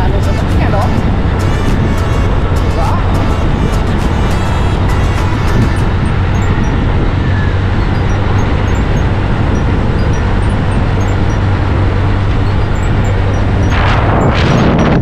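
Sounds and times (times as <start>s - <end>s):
moving road vehicle: 0.0s - 15.0s.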